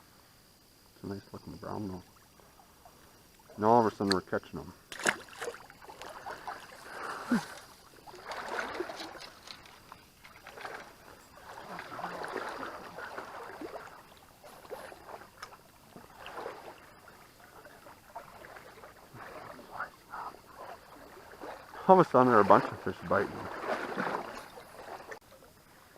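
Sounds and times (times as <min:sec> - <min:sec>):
water sloshing in a creek: 0:00.4 - 0:25.9.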